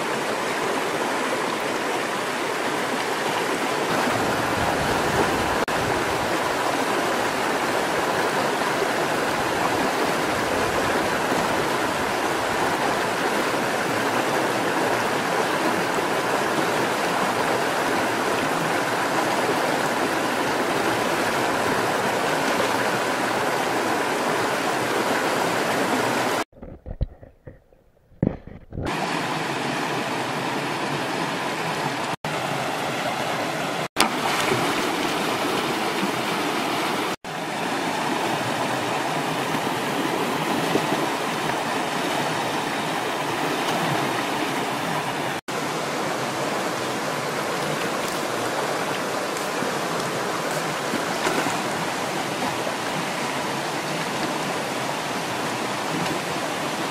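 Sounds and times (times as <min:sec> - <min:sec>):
river rushing over stones: 0:00.0 - 0:26.4, 0:28.9 - 0:56.9.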